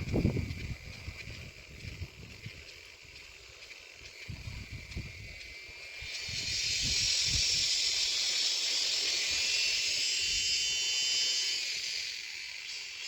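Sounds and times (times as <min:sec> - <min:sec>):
nestlings begging: 0:00.0 - 0:13.0.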